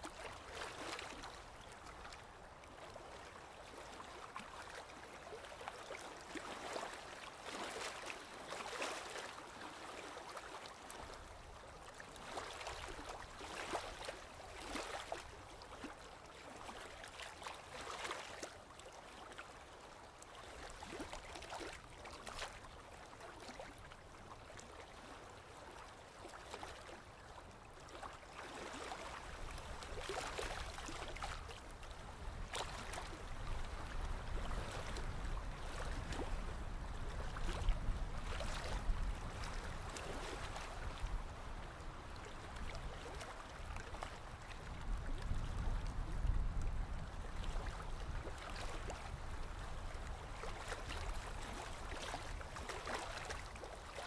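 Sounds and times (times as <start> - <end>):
sea water lapping and splashing: 0.0 - 54.0.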